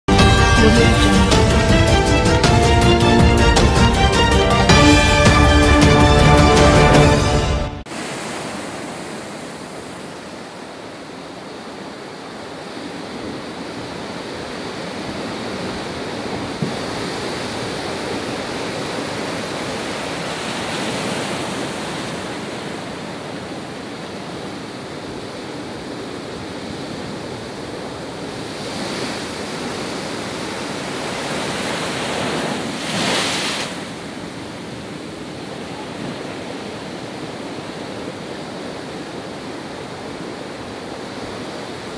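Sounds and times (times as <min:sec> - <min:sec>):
sea waves breaking: 0:00.1 - 0:41.9.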